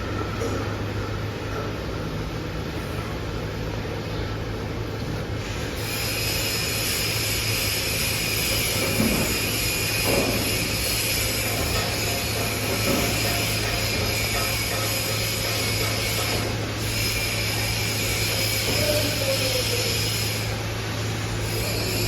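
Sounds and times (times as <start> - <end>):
forging press machinery running: 0.0 - 22.0.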